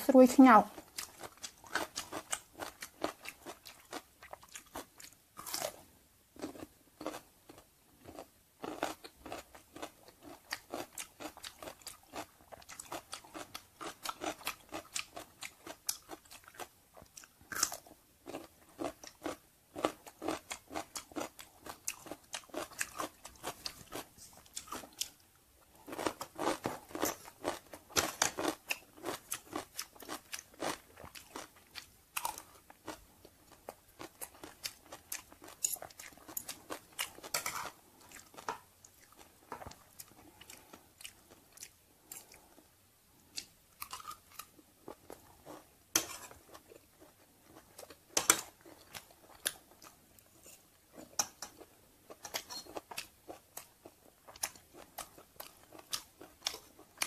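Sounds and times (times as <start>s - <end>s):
crunching and chewing pickle: 0.7s - 25.2s, 25.8s - 42.7s, 43.3s - 57.0s.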